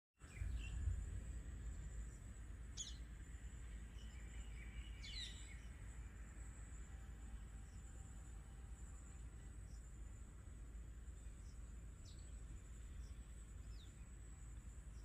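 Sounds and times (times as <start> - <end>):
steady low rumble: 0.2 - 15.0.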